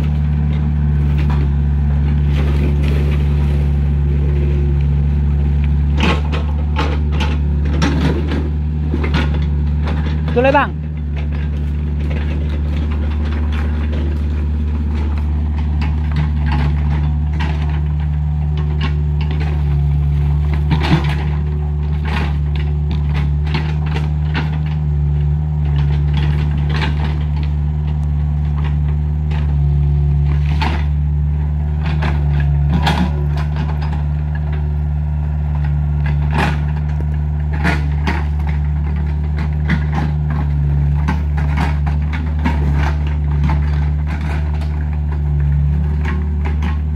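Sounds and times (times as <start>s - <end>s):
heavy diesel engine droning: 0.0s - 46.9s
knocks and clatter: 0.0s - 46.9s.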